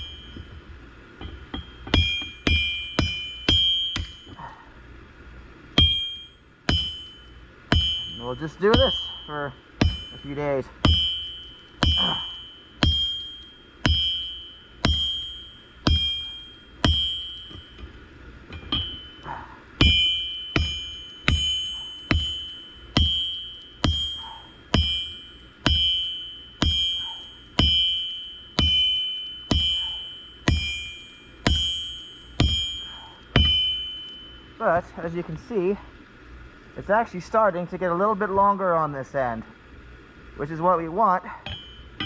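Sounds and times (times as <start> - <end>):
hammer striking hot steel on anvil: 0.0 - 4.6, 5.7 - 35.5, 41.3 - 42.0.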